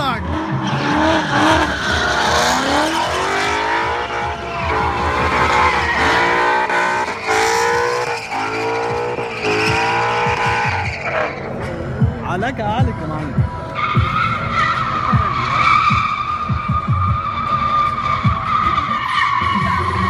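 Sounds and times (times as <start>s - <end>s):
tyres squealing and skidding: 0.0s - 12.0s, 13.3s - 20.0s
car engines revving hard: 0.0s - 20.0s.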